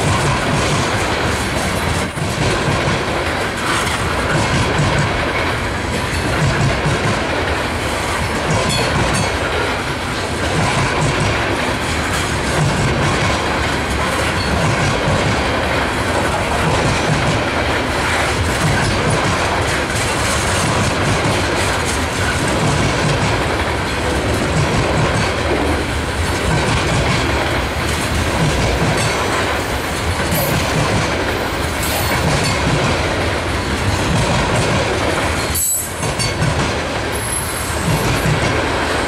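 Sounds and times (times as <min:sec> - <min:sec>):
train wheels clacking over rail joints: 0:00.0 - 0:39.0.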